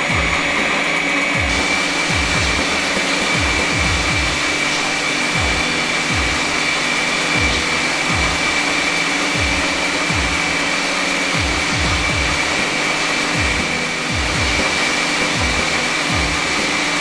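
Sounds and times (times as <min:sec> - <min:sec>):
stand mixer motor whining: 0:00.0 - 0:17.0.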